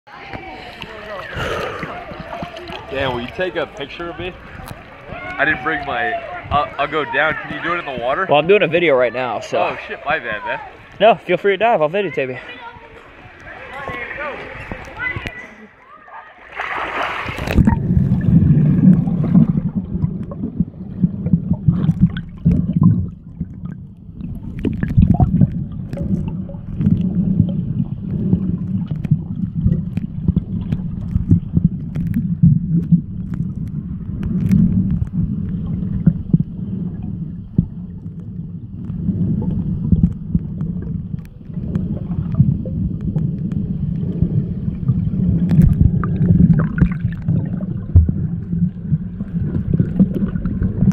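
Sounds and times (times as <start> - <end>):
underwater rumble and gurgle: 0.1 - 9.2, 17.0 - 50.9.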